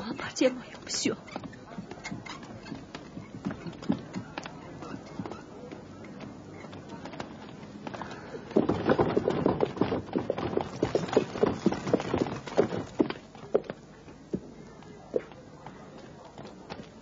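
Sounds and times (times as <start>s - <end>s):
hooves clip-clopping on hard ground: 0.7s - 17.0s.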